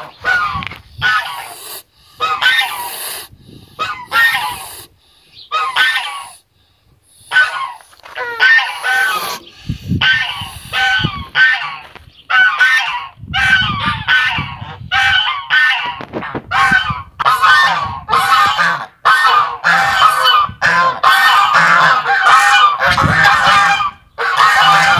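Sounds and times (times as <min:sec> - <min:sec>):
geese honking: 0:00.0 - 0:03.2, 0:03.8 - 0:04.9, 0:05.5 - 0:06.4, 0:07.2 - 0:24.9.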